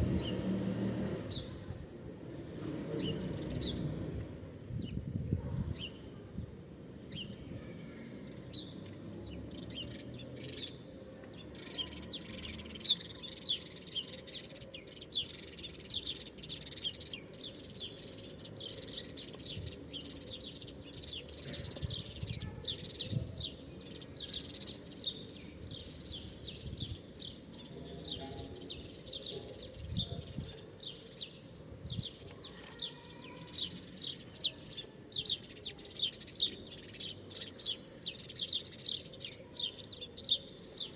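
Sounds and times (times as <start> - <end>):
small birds chirping: 3.0 - 40.9.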